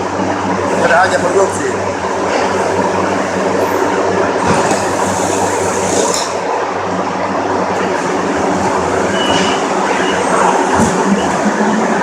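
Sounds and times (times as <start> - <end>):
refrigeration equipment droning: 0.0 - 12.0.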